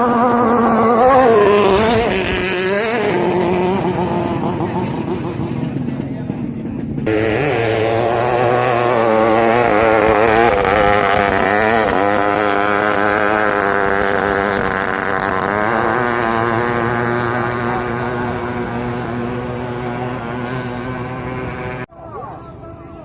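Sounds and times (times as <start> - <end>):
motorboat engine running hard: 0.0 - 23.0.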